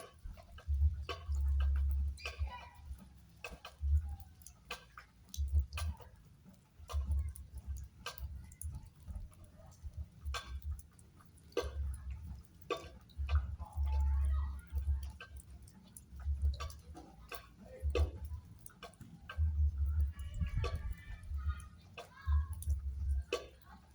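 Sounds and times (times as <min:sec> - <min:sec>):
water dripping on hard surfaces: 0:00.0 - 0:23.9.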